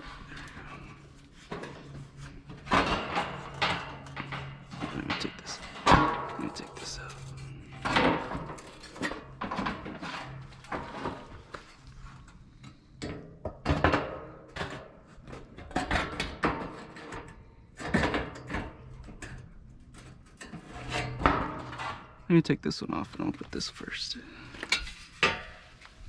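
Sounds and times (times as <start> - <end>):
parts knocking and clattering: 0.0 - 22.2.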